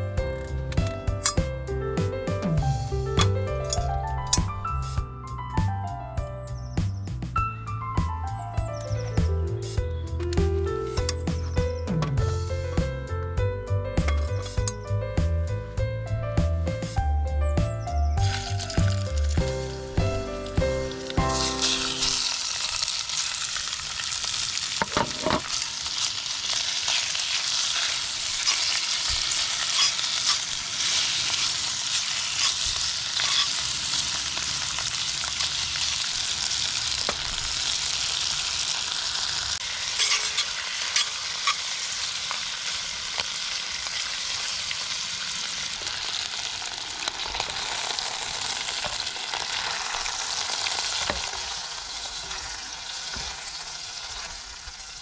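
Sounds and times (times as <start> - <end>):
food sizzling: 0.0 - 5.0, 8.8 - 13.2, 18.1 - 55.0.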